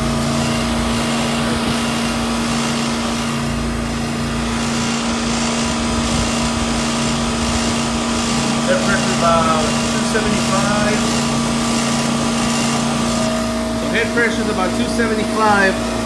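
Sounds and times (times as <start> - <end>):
compressor hum: 0.0 - 16.0
condenser fan air noise: 0.0 - 16.0.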